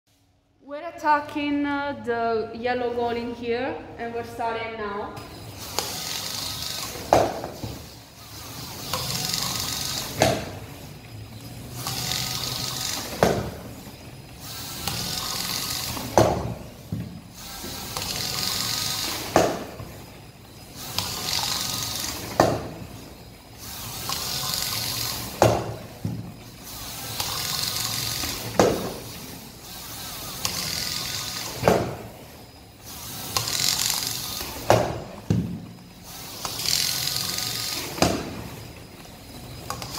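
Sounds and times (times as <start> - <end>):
robot wheel motors whirring: 5.0 - 39.9.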